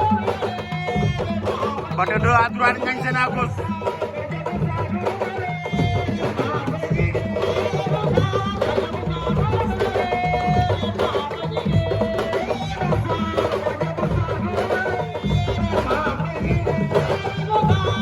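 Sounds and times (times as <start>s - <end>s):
drum-led music with melody: 0.0s - 18.0s.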